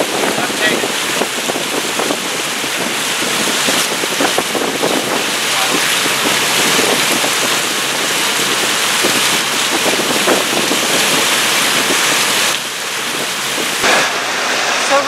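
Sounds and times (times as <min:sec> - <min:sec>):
water rushing past boat hull: 0:00.0 - 0:15.0
wind over microphone: 0:00.0 - 0:15.0.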